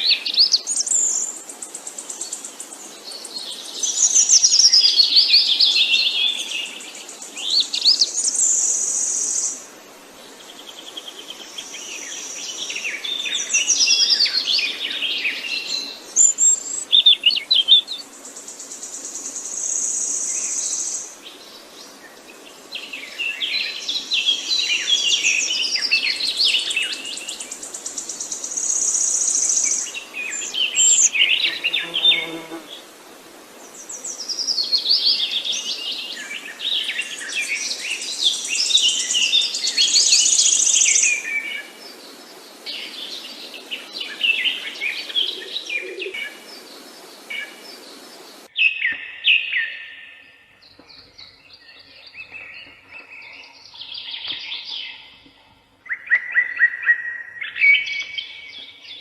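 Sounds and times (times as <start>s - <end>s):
steady background hiss: 0.0s - 48.6s
songbirds chirping and trilling: 0.0s - 59.0s.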